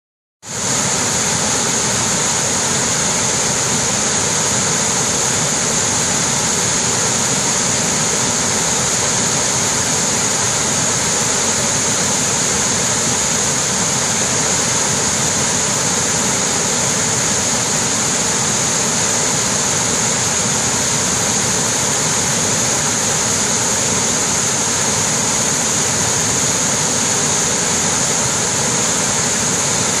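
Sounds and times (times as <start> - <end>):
waterfall rushing: 0.5 - 30.0.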